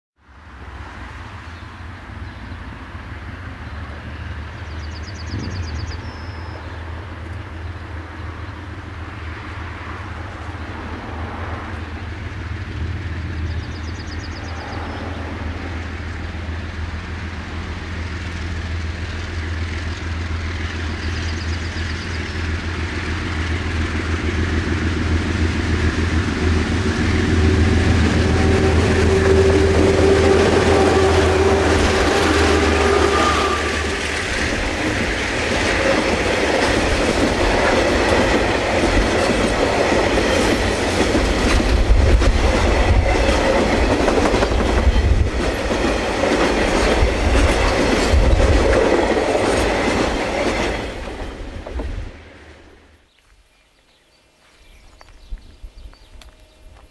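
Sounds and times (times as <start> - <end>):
diesel locomotives engine drone: 0.2 - 56.9.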